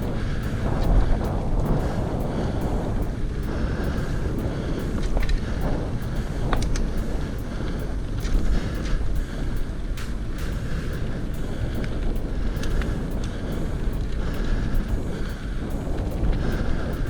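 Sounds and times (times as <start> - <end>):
bike rolling rumble: 0.0 - 17.0
faint clicks: 0.0 - 17.0
wind buffeting microphone: 0.0 - 17.0.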